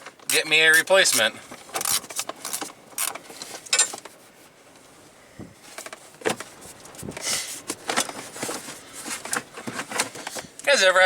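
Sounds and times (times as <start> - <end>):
hand tools clicking and scraping: 0.1 - 4.2, 5.7 - 10.7.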